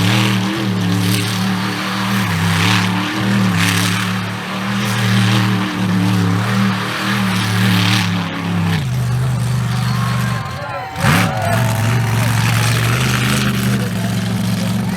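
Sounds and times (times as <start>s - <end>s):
big truck engine revving: 0.0s - 14.9s.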